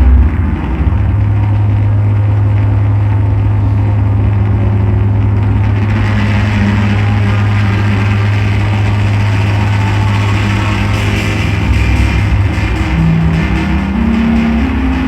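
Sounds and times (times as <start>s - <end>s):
electronic drone noise: 0.0s - 15.0s.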